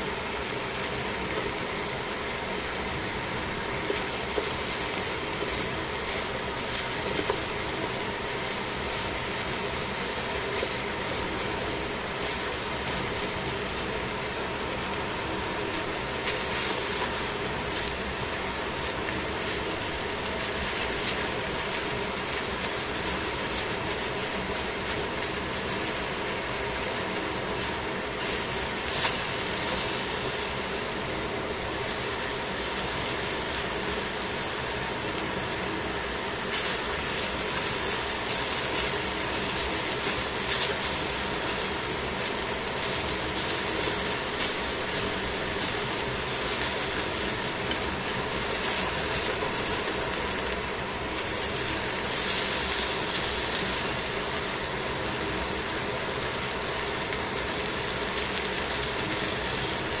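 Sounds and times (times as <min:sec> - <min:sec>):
food sizzling in frying pan: 0:00.0 - 1:00.0.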